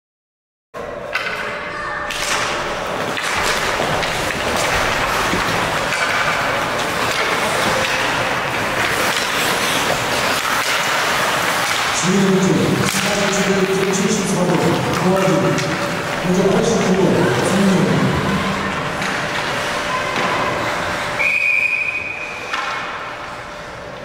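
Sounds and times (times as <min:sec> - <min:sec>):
hockey sticks knocking: 0:02.1 - 0:21.0, 0:22.4 - 0:23.2
skates scraping ice: 0:02.3 - 0:23.8.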